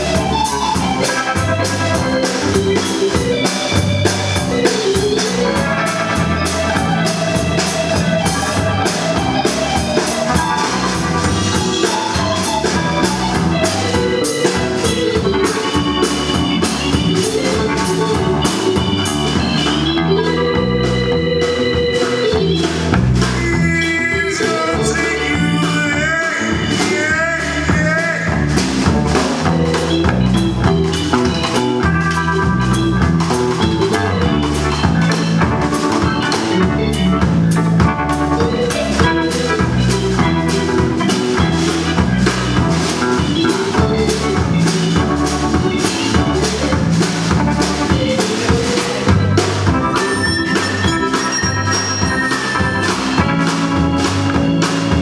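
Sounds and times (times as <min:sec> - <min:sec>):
bass: 0:00.0 - 0:55.0
drum kit beat: 0:00.0 - 0:55.0
electric guitar: 0:00.0 - 0:55.0
keyboard: 0:00.0 - 0:55.0.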